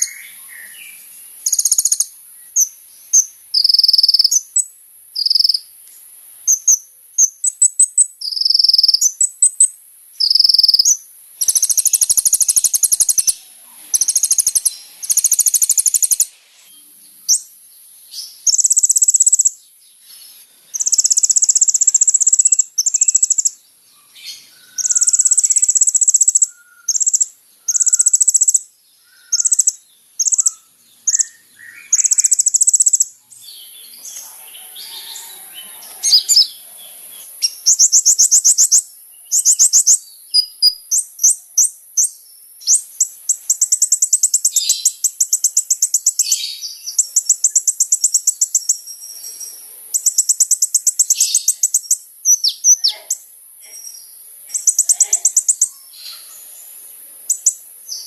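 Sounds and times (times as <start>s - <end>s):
bird singing high rapid trills: 0.0s - 5.7s, 6.5s - 17.5s, 18.2s - 53.3s, 53.9s - 58.0s.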